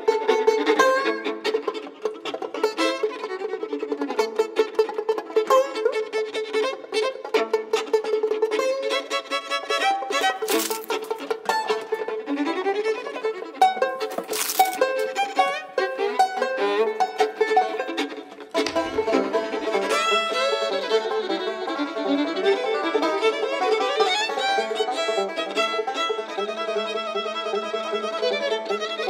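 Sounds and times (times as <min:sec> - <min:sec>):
banjo accompaniment: 0:00.0 - 0:29.0
fiddle tune: 0:00.0 - 0:29.0.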